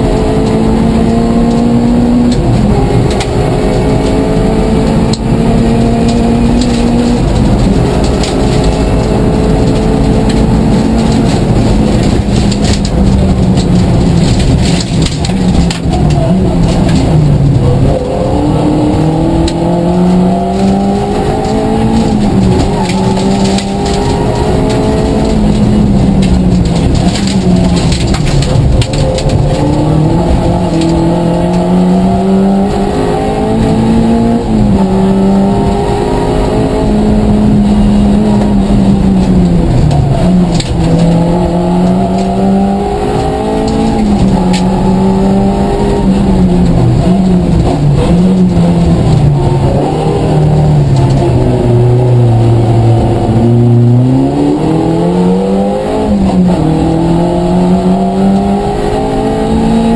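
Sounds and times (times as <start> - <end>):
rally car engine revving: 0.0 - 59.9
tyre and gravel noise: 4.8 - 59.9.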